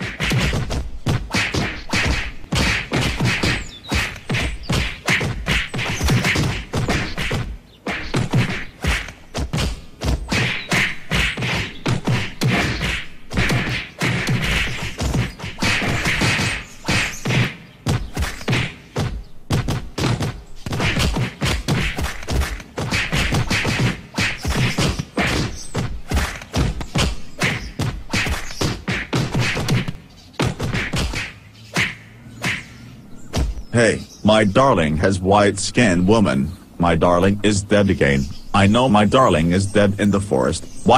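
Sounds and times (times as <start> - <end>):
cartoon punch thuds: 0.0 - 32.7, 33.3 - 33.7.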